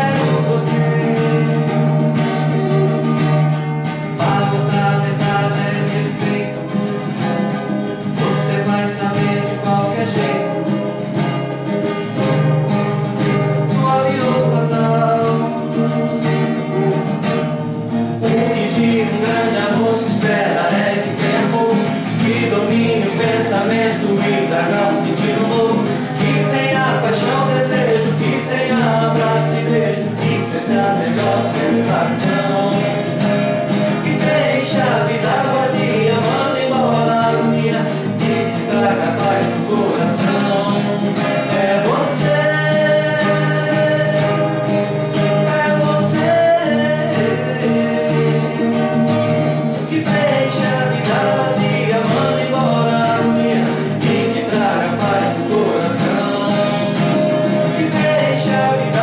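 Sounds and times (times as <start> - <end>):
person singing: 0.0 - 2.1, 4.1 - 11.2, 12.0 - 16.3, 18.0 - 59.0
guitar accompaniment: 0.0 - 59.0.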